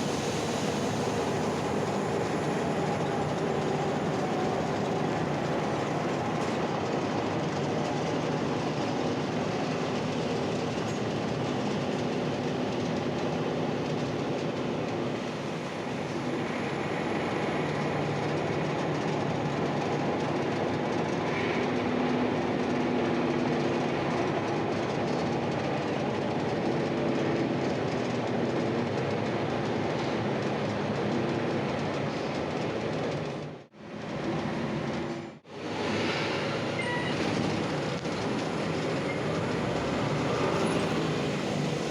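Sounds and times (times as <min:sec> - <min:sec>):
bus diesel engine running: 0:00.0 - 0:41.9
rumble of moving bus: 0:00.0 - 0:41.9.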